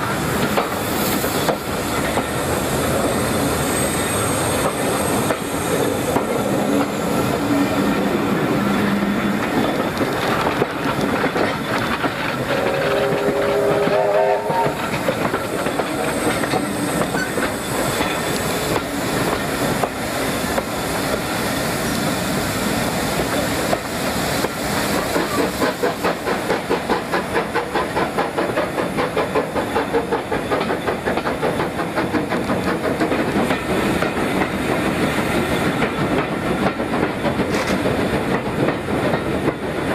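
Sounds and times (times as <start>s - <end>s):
steam train rumble and hiss: 0.0s - 39.9s.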